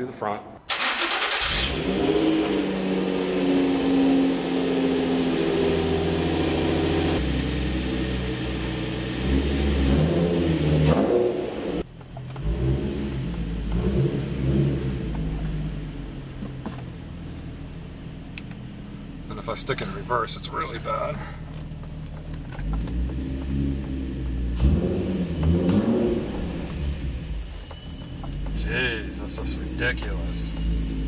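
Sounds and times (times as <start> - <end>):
car engine starting and idling: 0.6 - 31.0.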